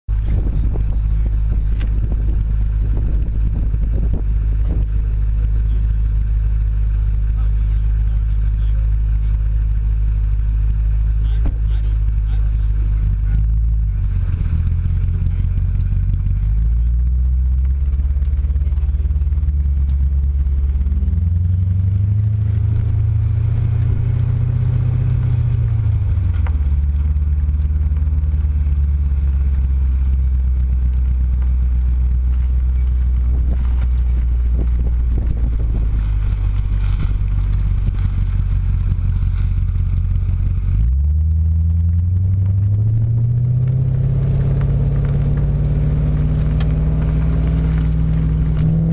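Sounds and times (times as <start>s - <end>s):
car engine exhaust roar: 0.0s - 48.9s.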